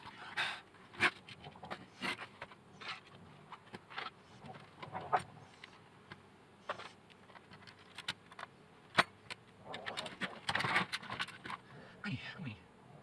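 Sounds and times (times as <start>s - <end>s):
plastic parts clicking and knocking: 0.9s - 11.6s.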